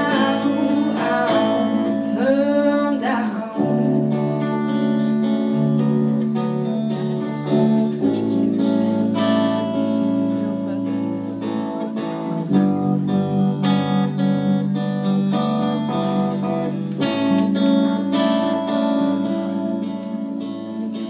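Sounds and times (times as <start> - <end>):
guitar strumming chords: 0.0 - 21.0.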